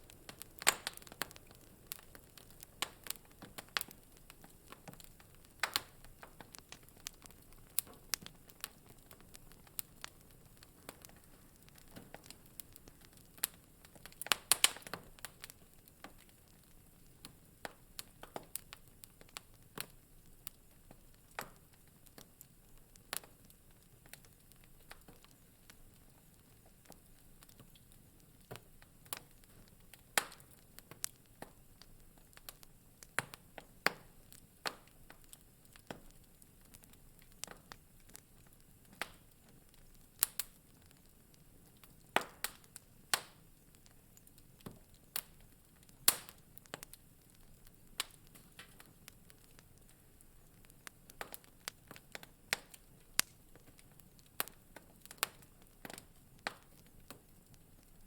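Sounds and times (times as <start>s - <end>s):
faint steady hiss: 0.0s - 58.0s
wood fire pops and snaps: 0.0s - 58.0s.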